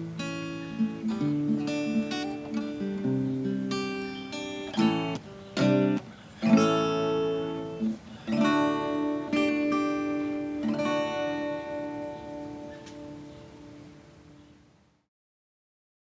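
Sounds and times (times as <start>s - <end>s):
acoustic guitar strumming: 0.0s - 14.4s.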